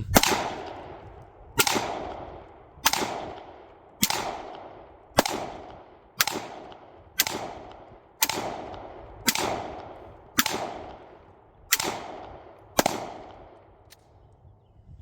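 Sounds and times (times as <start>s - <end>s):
gunshots with echo: 0.0s - 13.8s.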